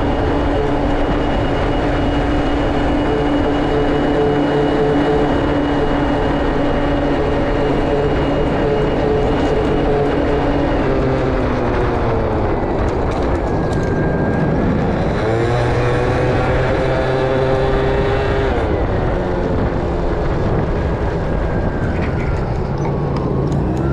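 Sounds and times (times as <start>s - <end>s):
scooter engine: 0.0s - 23.9s
wind and road noise: 0.0s - 23.9s.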